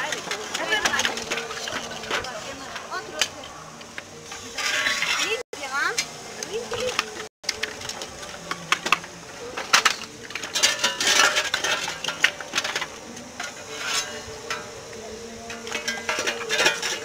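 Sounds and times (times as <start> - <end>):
hot stones clinking: 0.0 - 17.0
metal shovel scraping: 0.0 - 17.0.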